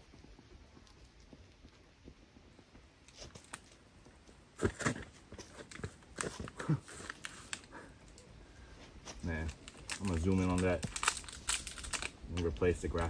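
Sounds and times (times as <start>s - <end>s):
footsteps on trail: 0.0s - 13.0s.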